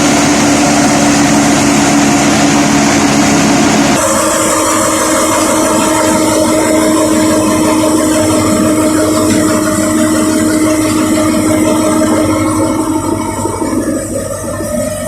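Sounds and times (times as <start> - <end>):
flour mill machinery humming: 0.0 - 15.0.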